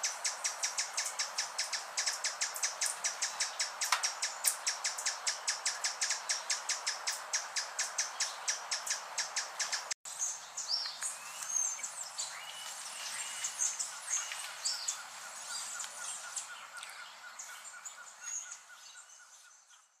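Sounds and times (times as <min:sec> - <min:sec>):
forest birds chirping: 0:00.0 - 0:20.0.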